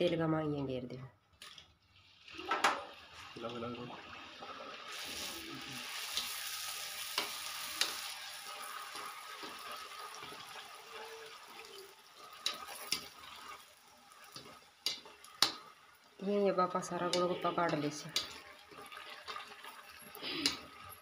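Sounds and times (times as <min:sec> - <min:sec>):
food sizzling in hot oil: 0:02.0 - 0:21.0.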